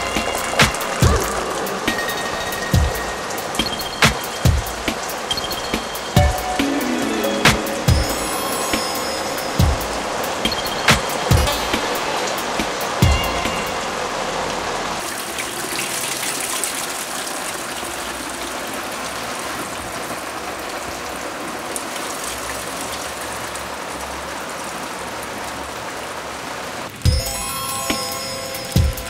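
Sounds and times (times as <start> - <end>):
running water: 0.0 - 29.0.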